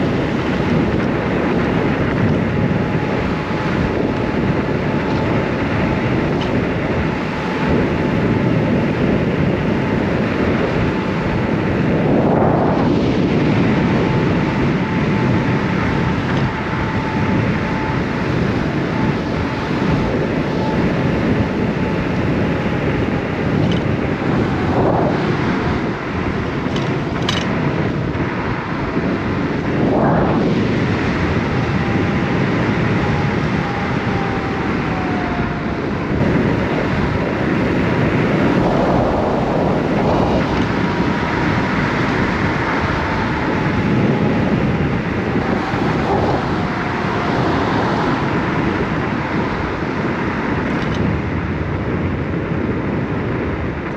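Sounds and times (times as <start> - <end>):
faint electric motor whine: 0.0 - 53.9
road noise: 0.0 - 53.9
wind buffeting microphone: 0.0 - 53.9.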